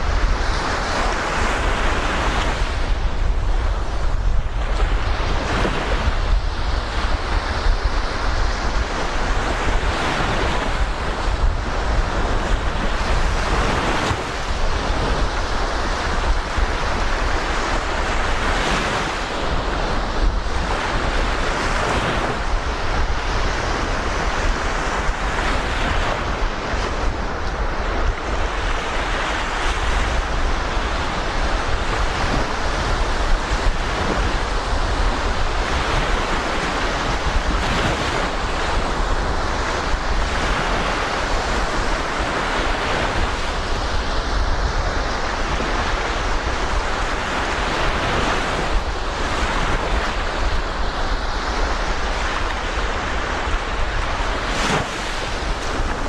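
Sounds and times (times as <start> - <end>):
surf washing onto beach: 0.0 - 56.0
wind buffeting microphone: 0.0 - 56.0.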